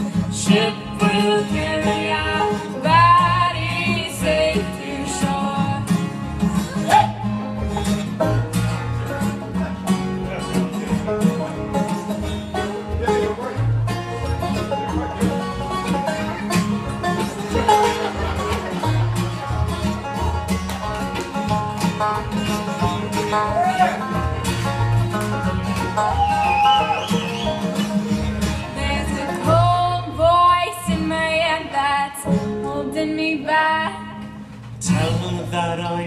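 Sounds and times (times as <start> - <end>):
upright bass line: 0.0 - 33.2, 33.8 - 36.0
fiddle: 0.0 - 35.9
mandolin: 0.0 - 36.0
strummed acoustic guitar: 0.0 - 36.0.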